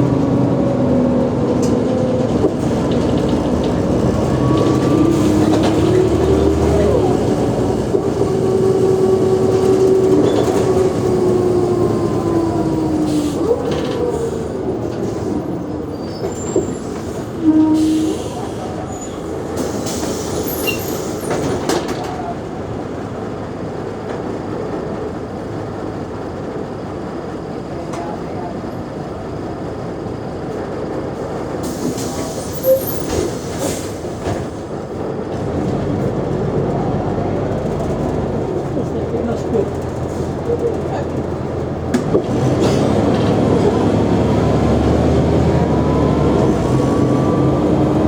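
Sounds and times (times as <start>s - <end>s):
bus drivetrain whine: 0.0s - 48.0s.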